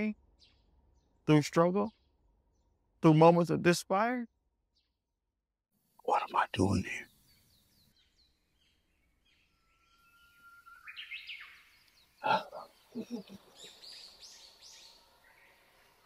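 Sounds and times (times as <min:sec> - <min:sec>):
birds chirping: 0:00.0 - 0:04.1, 0:06.0 - 0:16.0.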